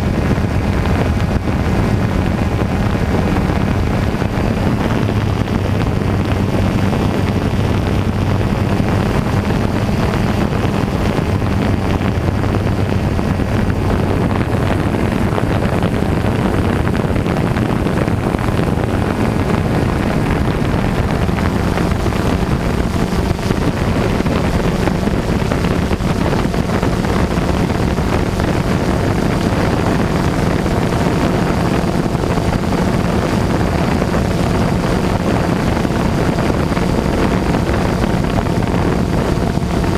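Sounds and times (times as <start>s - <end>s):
loud rushing noise: 0.0s - 39.9s.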